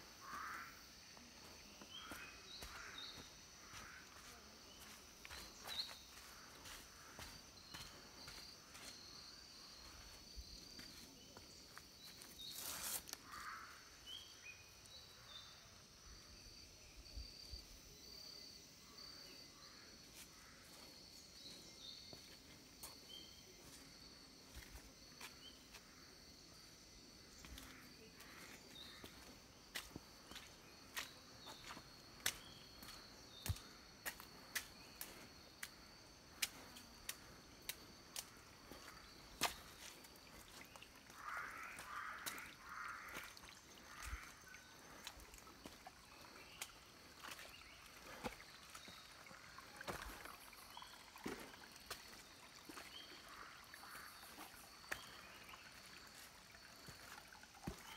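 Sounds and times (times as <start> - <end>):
insect chirps: 0.0 - 57.9
footsteps on a trail: 0.1 - 13.6, 20.1 - 26.0, 27.3 - 50.4, 51.2 - 57.9.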